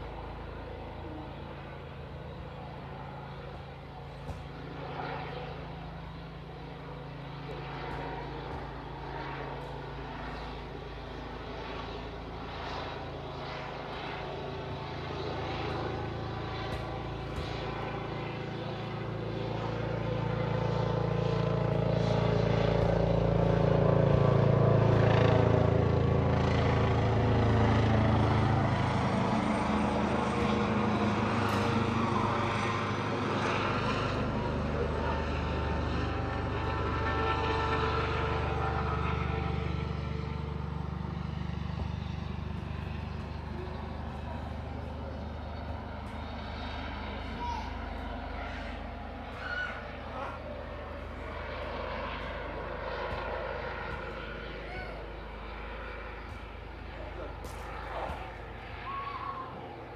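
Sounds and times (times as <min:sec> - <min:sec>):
helicopter rotor drone: 0:00.0 - 0:59.9.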